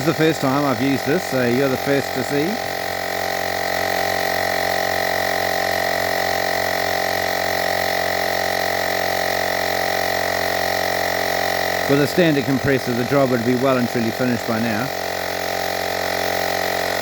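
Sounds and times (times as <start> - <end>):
tyre inflator humming: 0.0 - 17.0.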